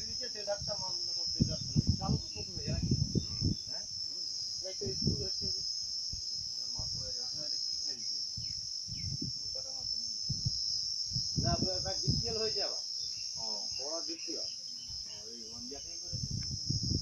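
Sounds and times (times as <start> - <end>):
insect chorus shrill drone: 0.0 - 17.0.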